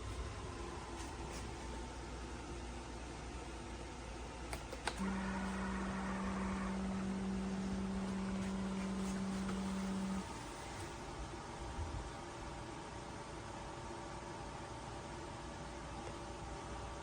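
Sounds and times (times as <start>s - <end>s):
low electric hum: 0.0s - 17.0s.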